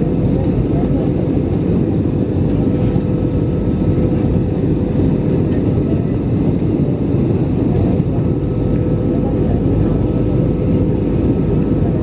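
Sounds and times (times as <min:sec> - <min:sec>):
airflow and jet engine roar: 0:00.0 - 0:12.0.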